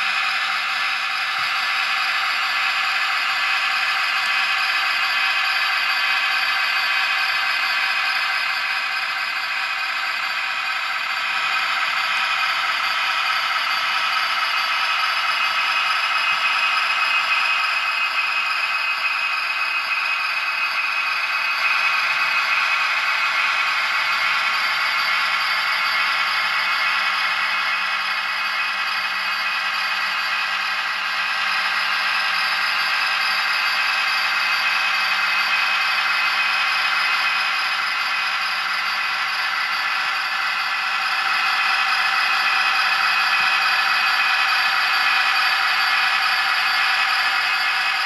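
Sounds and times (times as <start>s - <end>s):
tinny diesel engine sound from speaker: 0.0s - 48.0s.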